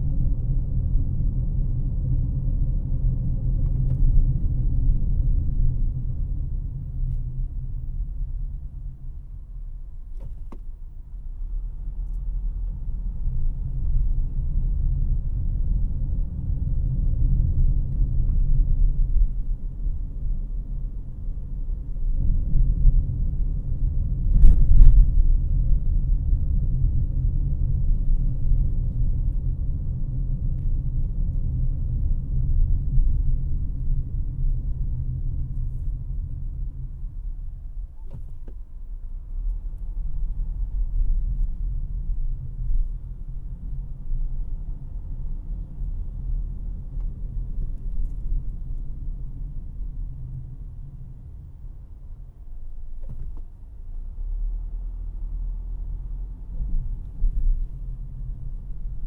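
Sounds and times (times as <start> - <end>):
car cabin engine and road rumble: 0.0 - 59.0.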